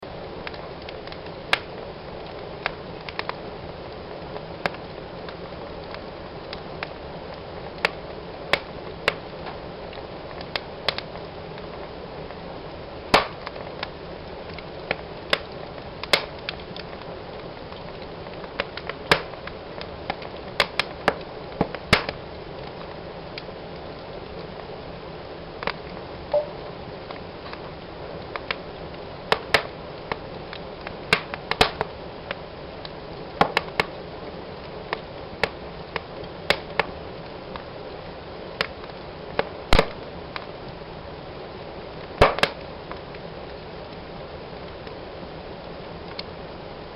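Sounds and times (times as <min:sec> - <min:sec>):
fire hissing and crackling: 0:00.0 - 0:46.9.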